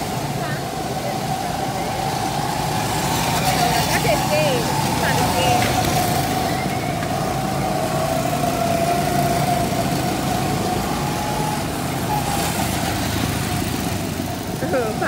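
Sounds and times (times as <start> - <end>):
go-kart motors whining: 0.0 - 15.0.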